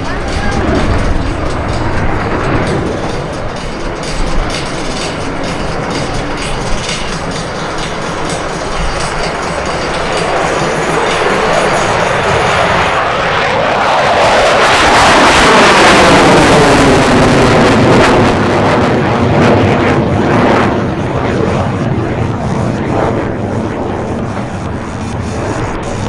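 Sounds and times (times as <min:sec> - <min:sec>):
aircraft flying past: 0:00.0 - 0:26.0.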